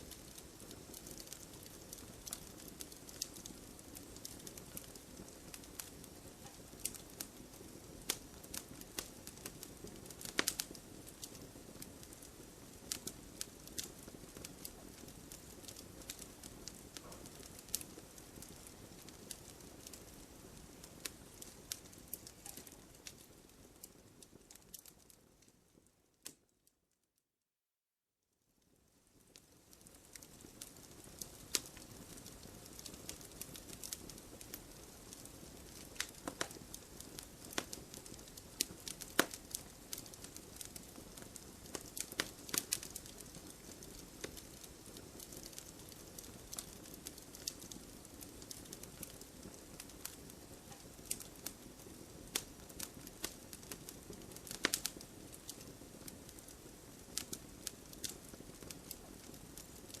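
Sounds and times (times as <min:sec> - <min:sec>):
campfire crackling: 0:00.0 - 0:26.4, 0:29.1 - 1:00.0.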